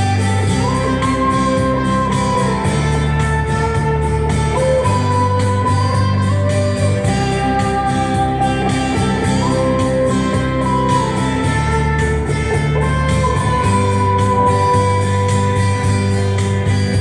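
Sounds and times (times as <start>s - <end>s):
electric guitar sliding notes: 0.0s - 17.0s
karaoke backing track: 0.0s - 17.0s.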